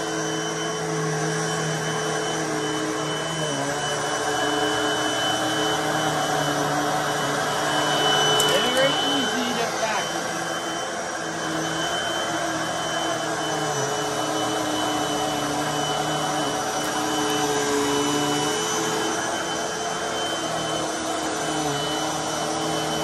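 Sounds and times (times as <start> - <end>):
vacuum cleaner running on carpet: 0.0 - 23.0.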